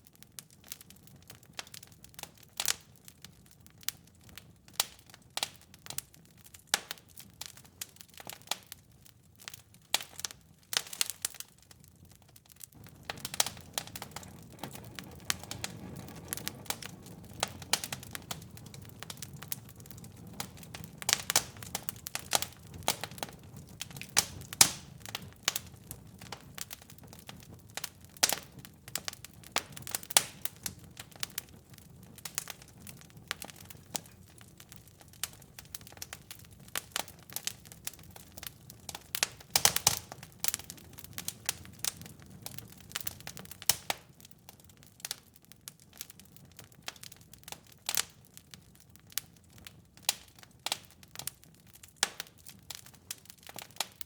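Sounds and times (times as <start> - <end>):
fire flames rumbling: 0.0 - 54.0
fire pops and snaps: 0.0 - 54.0.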